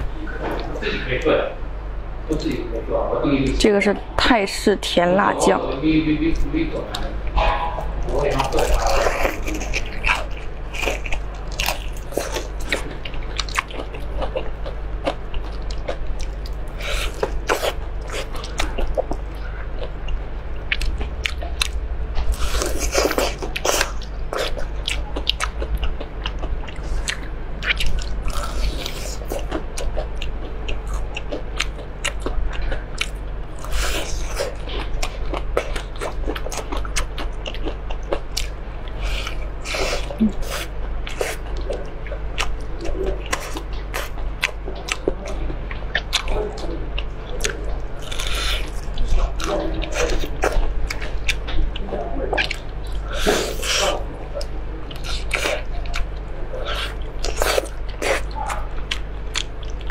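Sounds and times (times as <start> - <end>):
steady low hum: 0.0 - 59.9
crunchy fried chicken chewing: 8.0 - 59.9.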